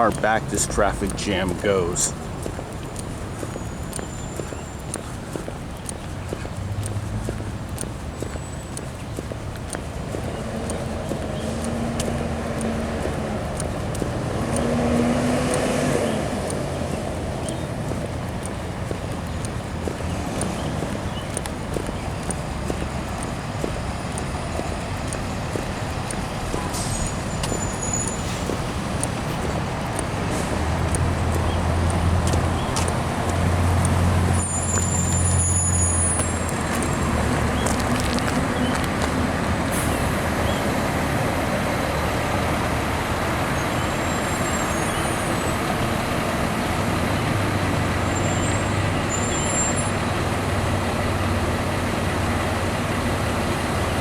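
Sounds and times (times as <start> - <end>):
heavy vehicle engine drone: 0.0 - 54.0
vehicle engines running: 0.0 - 54.0.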